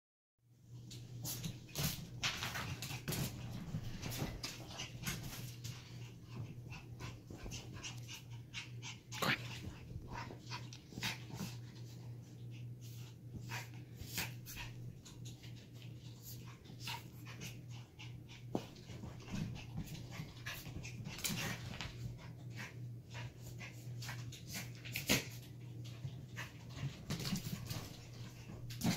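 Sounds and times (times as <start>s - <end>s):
steady low hum: 0.5s - 28.9s.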